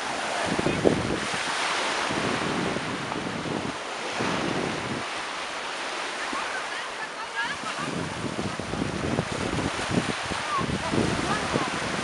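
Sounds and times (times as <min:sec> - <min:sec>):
wind rumbling on microphone: 0:00.0 - 0:06.6, 0:07.4 - 0:12.0
small waves on sandy shore: 0:00.0 - 0:12.0.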